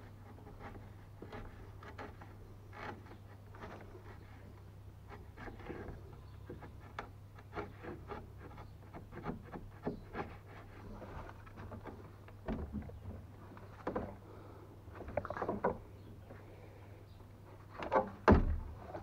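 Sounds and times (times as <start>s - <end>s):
wooden clicks and scrapes: 0.0s - 16.5s, 17.2s - 19.0s.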